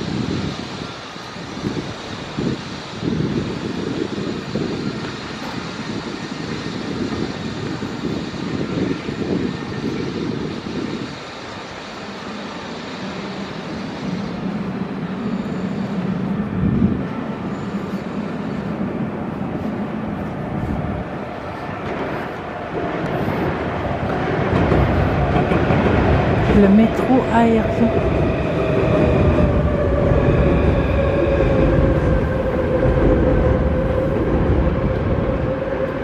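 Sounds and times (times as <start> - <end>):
city traffic roar: 0.0 - 36.0
train hum on viaduct: 0.0 - 36.0.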